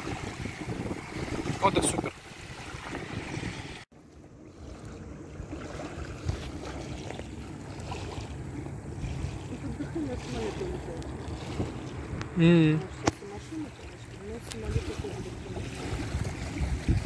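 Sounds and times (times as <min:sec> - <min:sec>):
wind buffeting microphone: 0:00.0 - 0:03.9, 0:05.1 - 0:17.0
small waves lapping: 0:00.0 - 0:17.0.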